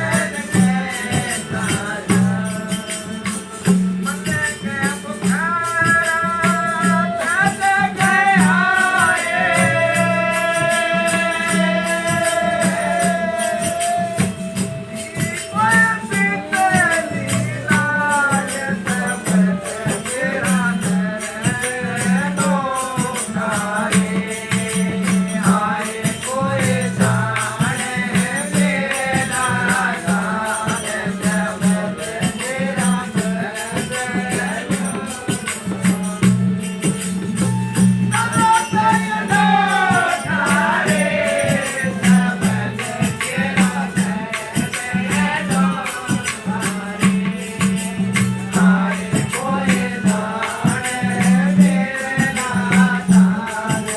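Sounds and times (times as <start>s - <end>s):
jingling rattle percussion: 0.0s - 53.9s
steady drum beat: 0.0s - 53.9s.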